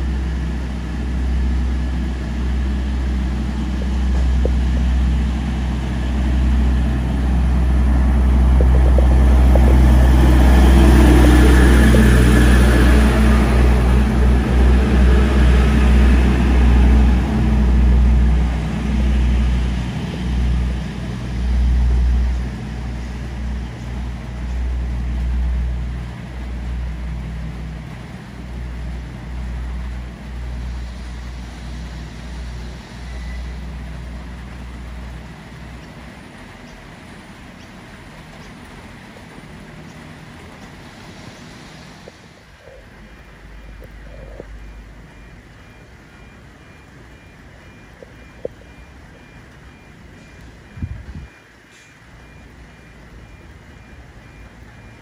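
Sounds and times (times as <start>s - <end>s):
railcar engine passing: 0.0s - 55.0s.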